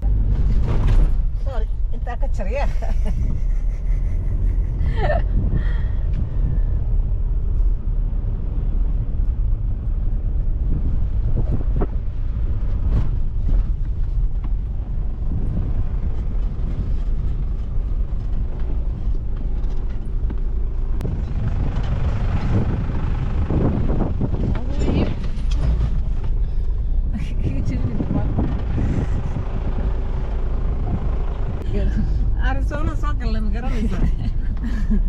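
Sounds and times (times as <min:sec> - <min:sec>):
car driving low rumble: 0:00.0 - 0:35.0.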